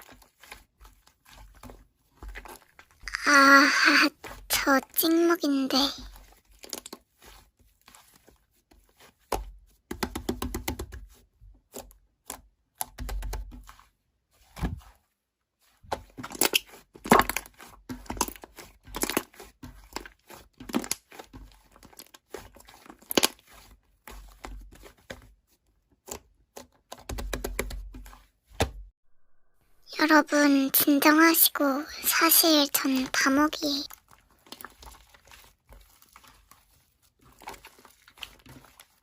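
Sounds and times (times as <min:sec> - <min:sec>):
slime squishing: 0:00.0 - 0:28.4, 0:30.0 - 0:39.0.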